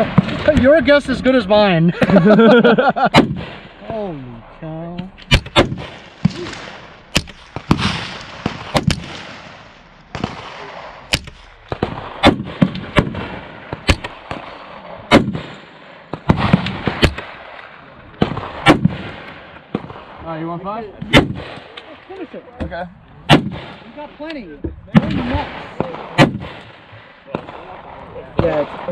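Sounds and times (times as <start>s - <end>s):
rifle shots echoing: 0.0s - 28.9s.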